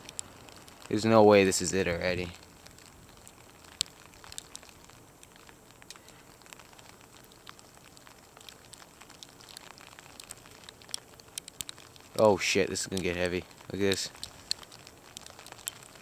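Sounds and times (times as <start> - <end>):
graupel and wet snow ticking: 0.0 - 16.0
steady hiss: 0.0 - 16.0.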